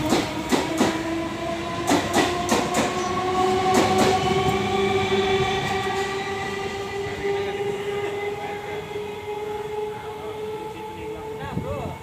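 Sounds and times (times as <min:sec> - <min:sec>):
electric train motor whine: 0:00.0 - 0:12.0.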